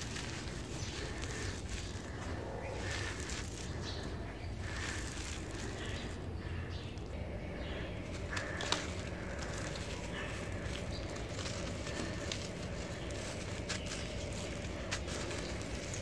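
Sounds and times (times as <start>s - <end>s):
crumbs rustling by hand: 0.0s - 16.0s.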